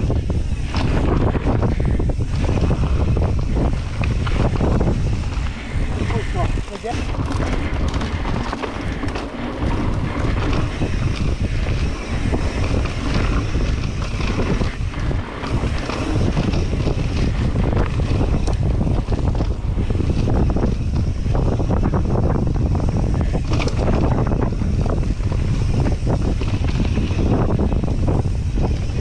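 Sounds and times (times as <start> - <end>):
bike knocks and rattles: 0.0 - 29.0
wind rumbling on microphone: 0.0 - 29.0.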